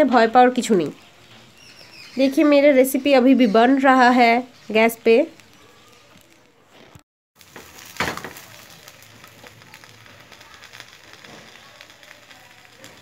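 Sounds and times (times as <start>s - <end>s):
food parcel sizzling and crackling: 0.0s - 13.0s.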